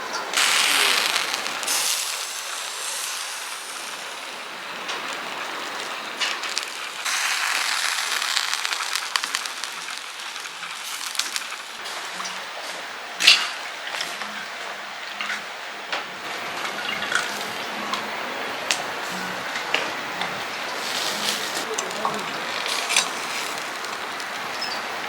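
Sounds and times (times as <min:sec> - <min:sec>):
meat sizzling on a grill: 0:00.3 - 0:15.5, 0:17.1 - 0:25.0.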